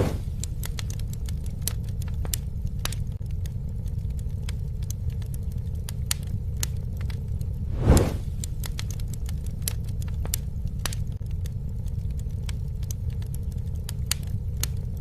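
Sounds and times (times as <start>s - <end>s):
campfire crackles and pops: 0.0s - 15.0s
low rumble of flames: 0.0s - 15.0s.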